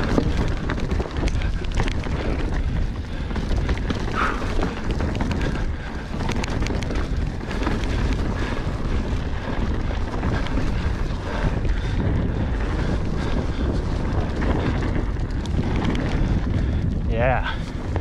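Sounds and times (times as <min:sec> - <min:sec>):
bike frame rattling: 0:00.0 - 0:18.0
bike tyres crunching on rocks: 0:00.0 - 0:18.0
wind on microphone: 0:00.0 - 0:18.0.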